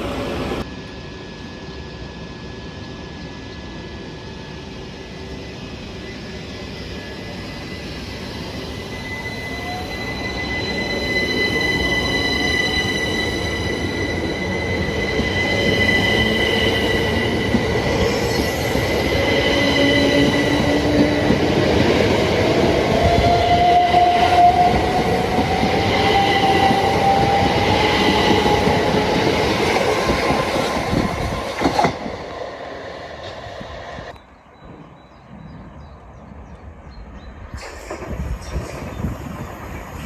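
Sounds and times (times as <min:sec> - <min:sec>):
electric train whining: 0:00.0 - 0:34.2
wheels rumbling on rail: 0:00.0 - 0:40.0.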